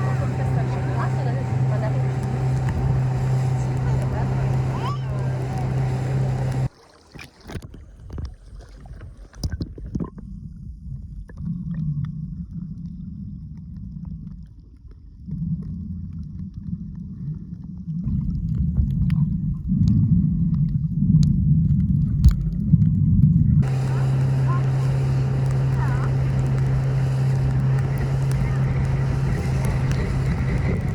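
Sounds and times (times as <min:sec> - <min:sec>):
low rumbling and water sloshing: 0:00.0 - 0:30.9.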